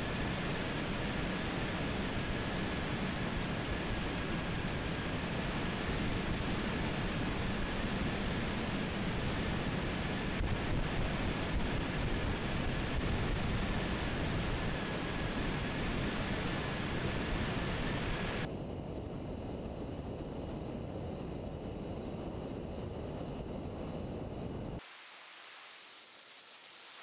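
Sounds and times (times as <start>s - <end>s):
faint high whine: 0.0s - 27.0s
wind rushing over microphone: 0.0s - 27.0s.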